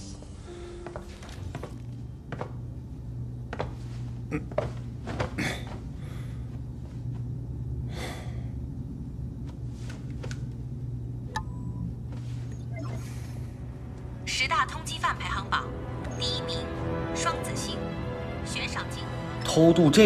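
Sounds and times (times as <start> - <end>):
low ambient hum: 0.0 - 20.0.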